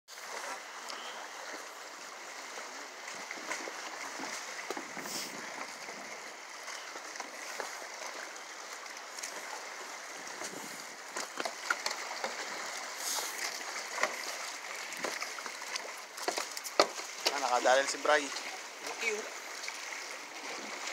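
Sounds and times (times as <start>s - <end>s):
small waves lapping against boulders: 0.1s - 20.9s.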